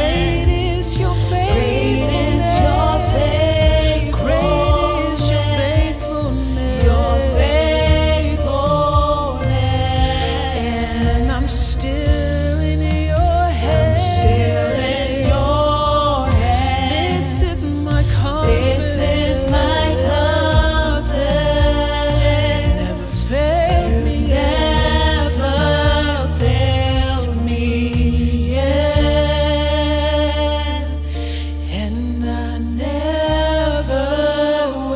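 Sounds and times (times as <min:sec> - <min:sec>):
person singing with gliding notes: 0:00.0 - 0:34.9
steady bass accompaniment: 0:00.0 - 0:34.9
worship music with choir and band: 0:00.0 - 0:34.9.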